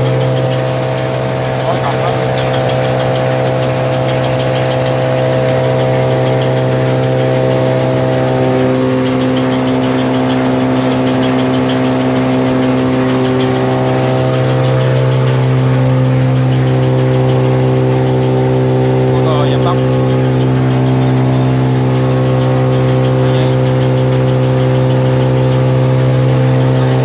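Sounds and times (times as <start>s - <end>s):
machine motor hum: 0.0s - 27.0s.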